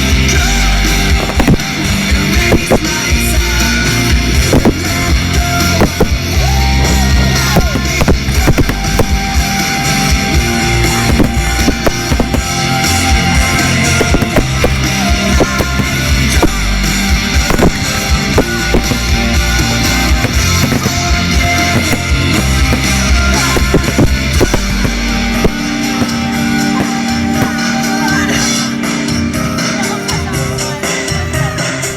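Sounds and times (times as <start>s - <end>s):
fireworks exploding: 0.0s - 30.7s
loud rock music: 0.0s - 31.9s.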